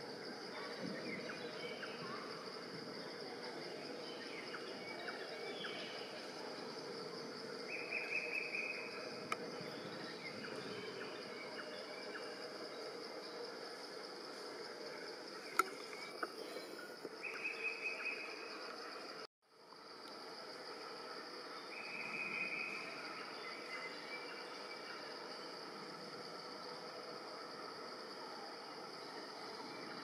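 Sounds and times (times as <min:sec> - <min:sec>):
background hiss: 0:00.0 - 0:30.0
insect drone: 0:00.0 - 0:30.0.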